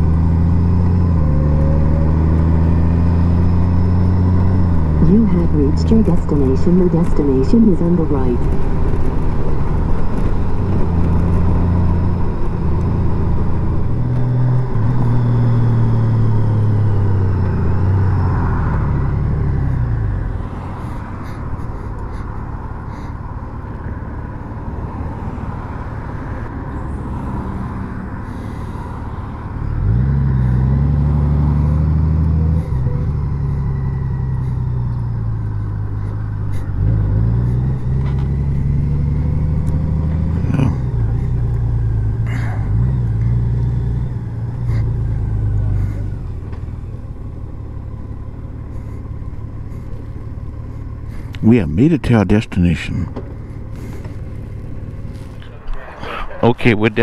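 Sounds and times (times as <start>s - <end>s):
motorcycle engine running: 0.0s - 24.6s, 31.0s - 51.5s, 53.1s - 55.8s
road and wind noise: 0.0s - 57.0s.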